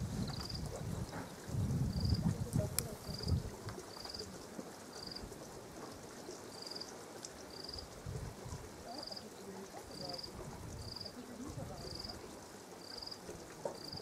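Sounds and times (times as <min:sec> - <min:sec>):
soft hiss: 0:01.2 - 0:14.0.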